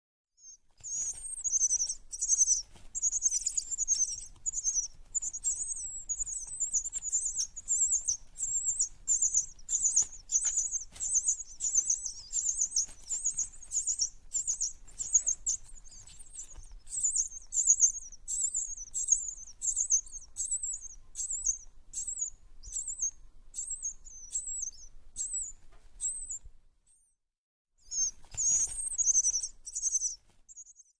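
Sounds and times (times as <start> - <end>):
small birds twittering: 0.4 - 27.1, 27.8 - 30.9.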